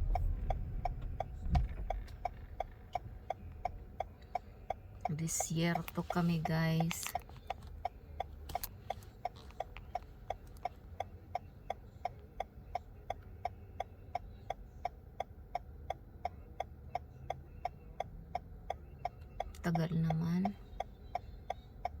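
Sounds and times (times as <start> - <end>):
car indicator relay ticking: 0.0 - 22.0
low rumble of car: 0.0 - 22.0.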